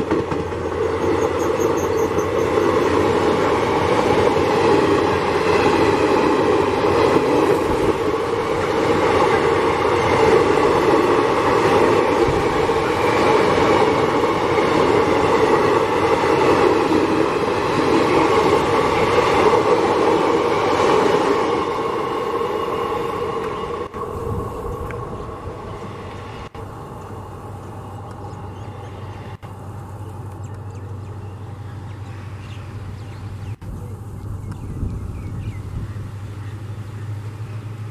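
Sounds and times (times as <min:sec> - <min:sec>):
passenger train rumbling past: 0:00.0 - 0:37.9.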